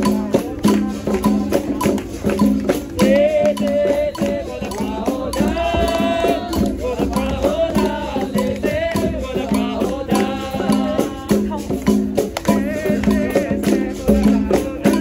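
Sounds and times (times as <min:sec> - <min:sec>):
berimbaus and shaker rattles: 0:00.0 - 0:15.0
hand percussion: 0:00.0 - 0:15.0
voices singing: 0:00.0 - 0:15.0.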